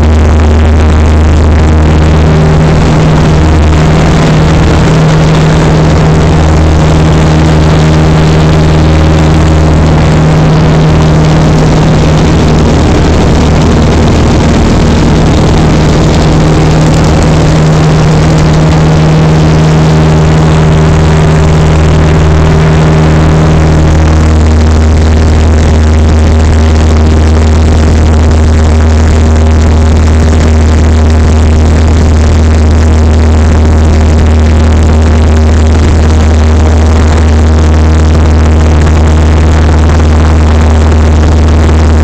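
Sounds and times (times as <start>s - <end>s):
aircraft engine and propeller drone: 0.0s - 42.0s.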